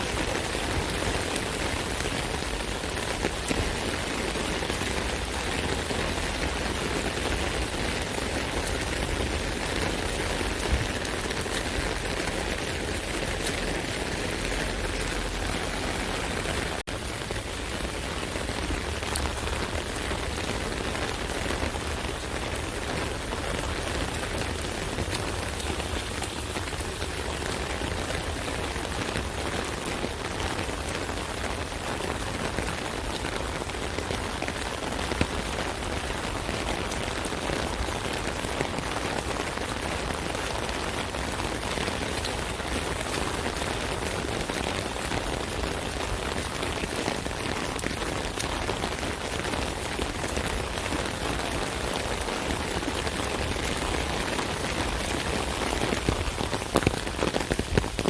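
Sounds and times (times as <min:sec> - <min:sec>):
rain pattering on an umbrella: 0:00.0 - 0:58.0.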